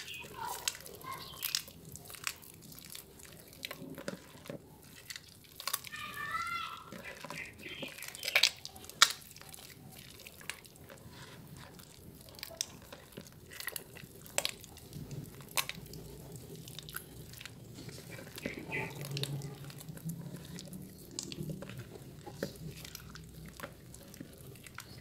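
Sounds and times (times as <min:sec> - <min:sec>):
wet soap squelching by hand: 0:00.0 - 0:25.0.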